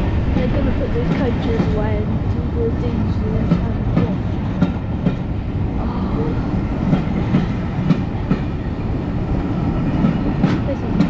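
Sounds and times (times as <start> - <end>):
railway carriage wheels rumbling: 0.0 - 11.0.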